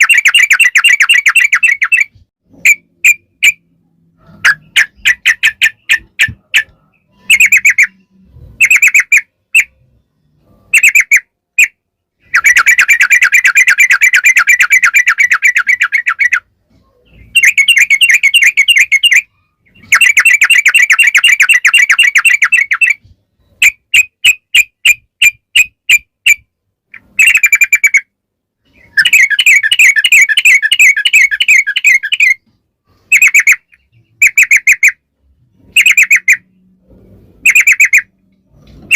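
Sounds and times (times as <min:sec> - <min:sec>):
bird chattering song: 0:00.0 - 0:35.0, 0:35.7 - 0:36.6, 0:37.4 - 0:38.2.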